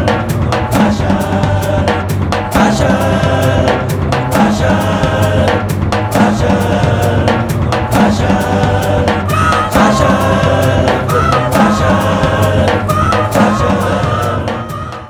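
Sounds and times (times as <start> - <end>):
steady drum beat: 0.0 - 15.0
upbeat music with singing: 0.0 - 15.0.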